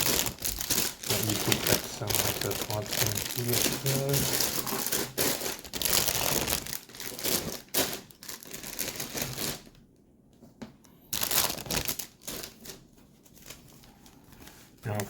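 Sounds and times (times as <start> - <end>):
plastic bags crinkling: 0.0 - 9.8, 11.1 - 15.0.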